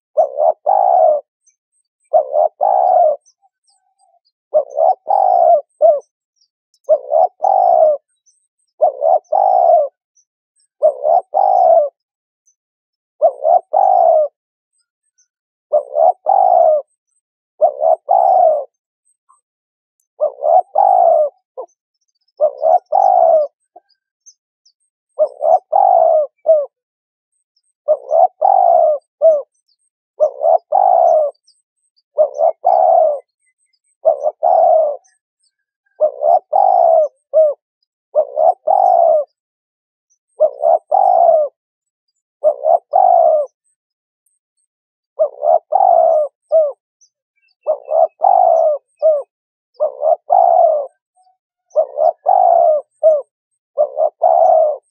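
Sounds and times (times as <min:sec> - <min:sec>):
dove cooing: 0:00.0 - 0:06.2, 0:06.8 - 0:10.0, 0:10.6 - 0:12.2, 0:13.2 - 0:14.4, 0:15.7 - 0:19.2, 0:20.1 - 0:24.1, 0:25.1 - 0:26.8, 0:27.8 - 0:39.4, 0:40.3 - 0:43.7, 0:45.1 - 0:46.8, 0:47.4 - 0:54.9.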